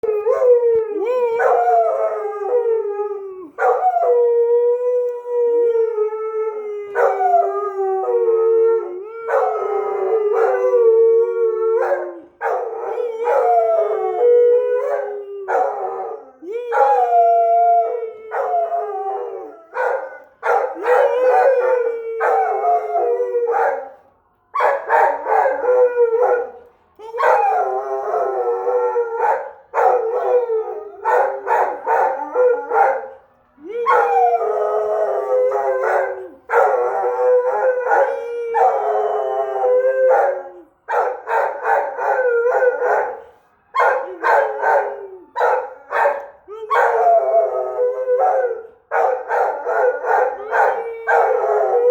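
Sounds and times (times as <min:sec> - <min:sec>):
dog howling: 0:00.0 - 0:24.0, 0:24.6 - 0:43.2, 0:43.8 - 0:51.9.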